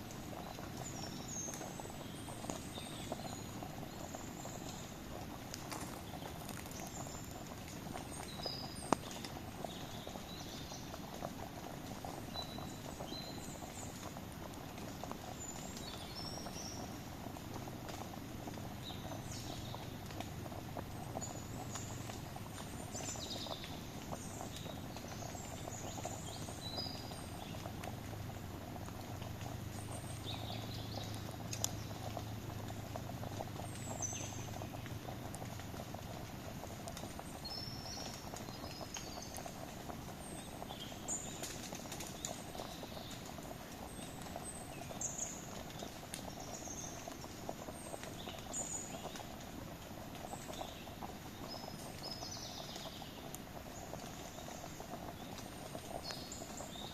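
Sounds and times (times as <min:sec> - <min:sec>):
campfire crackling and popping: 0:00.0 - 0:56.9
small birds chirping: 0:00.0 - 0:56.9.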